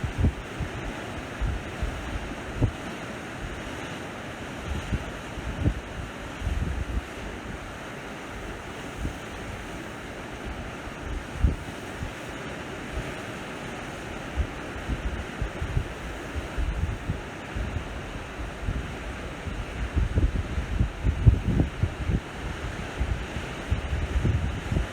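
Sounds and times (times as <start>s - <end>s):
wind buffeting microphone: 0.0s - 2.8s, 4.6s - 9.8s, 10.4s - 13.2s, 14.1s - 24.9s
sea waves washing ashore: 0.0s - 24.9s.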